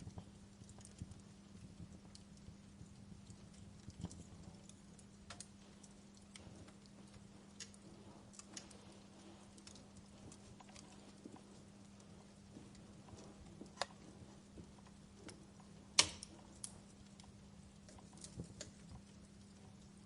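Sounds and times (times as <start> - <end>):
faint wood fire crackling: 0.0 - 20.0.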